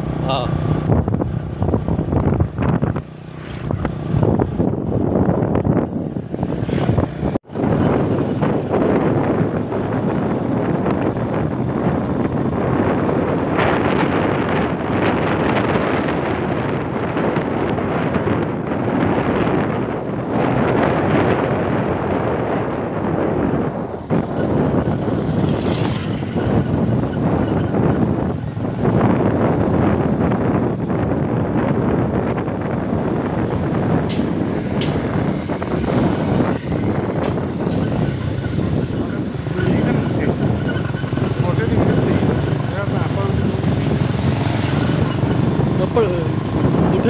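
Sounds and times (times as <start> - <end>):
motorbike running and road noise: 0.0 - 47.0
wind buffeting microphone: 0.0 - 47.0.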